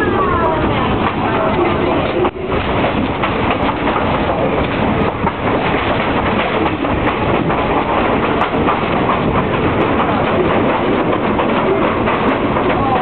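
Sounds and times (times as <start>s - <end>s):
train wheel and rail noise: 0.0s - 13.0s.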